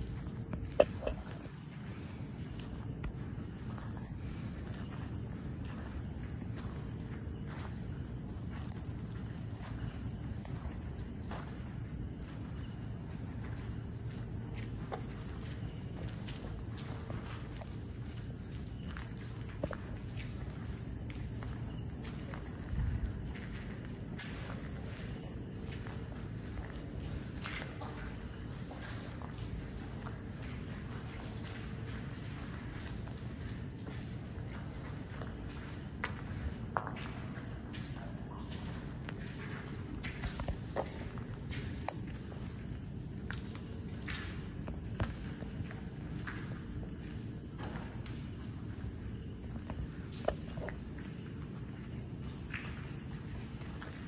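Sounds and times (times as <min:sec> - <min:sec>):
footsteps: 0:00.0 - 0:54.0
night insects chirring: 0:00.0 - 0:54.0.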